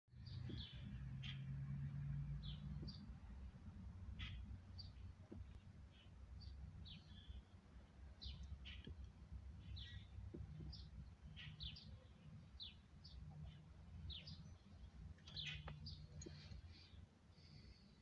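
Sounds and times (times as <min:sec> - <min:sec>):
songbirds chirping: 0:00.1 - 0:18.0.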